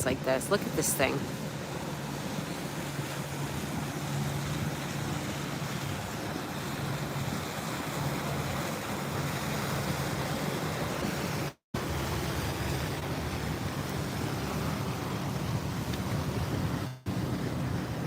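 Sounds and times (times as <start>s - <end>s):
low engine hum of yacht: 0.0s - 18.0s
surf washing: 0.0s - 18.0s
wind on microphone: 0.2s - 18.0s.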